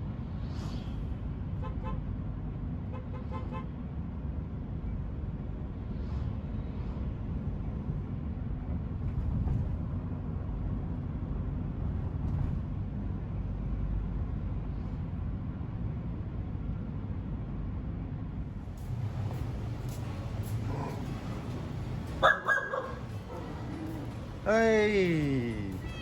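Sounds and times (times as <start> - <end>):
vehicle engine and tyre rumble: 0.0 - 24.5.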